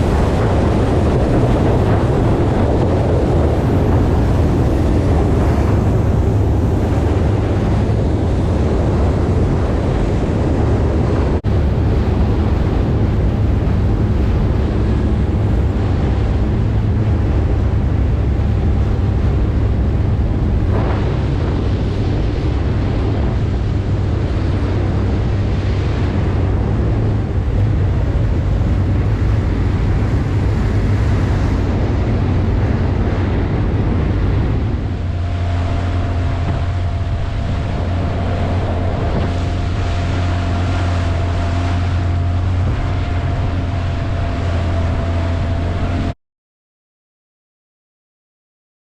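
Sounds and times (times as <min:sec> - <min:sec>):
jet ski engine running: 0:00.0 - 0:46.2
water rushing past hull: 0:00.0 - 0:46.2
wind buffeting microphone: 0:00.0 - 0:46.2.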